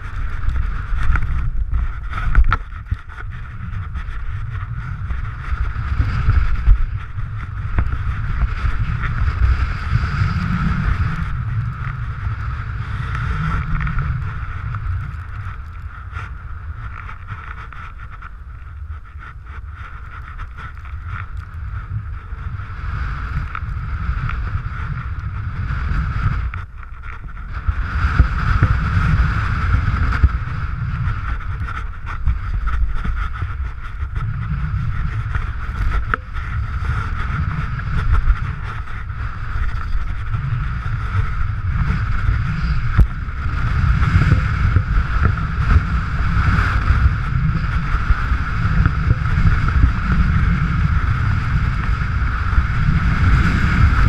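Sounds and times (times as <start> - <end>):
skis scraping over snow: 0.0 - 54.0
wind buffeting microphone: 0.0 - 54.0.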